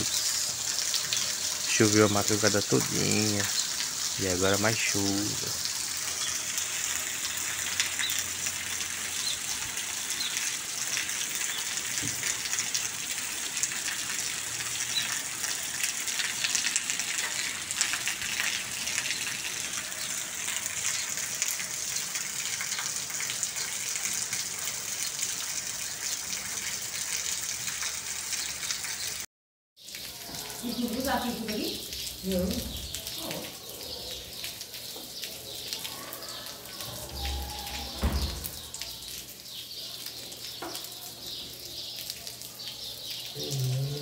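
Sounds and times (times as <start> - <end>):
rain on pavement: 0.0 - 44.0.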